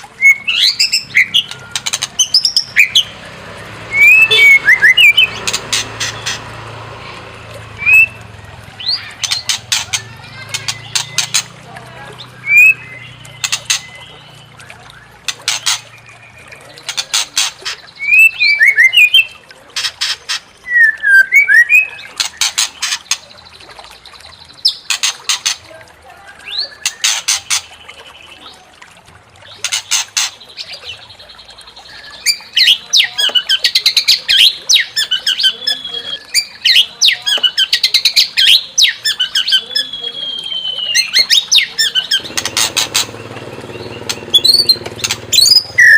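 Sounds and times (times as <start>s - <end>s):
bird song with harsh rasping notes: 0.0s - 28.7s, 29.4s - 45.9s.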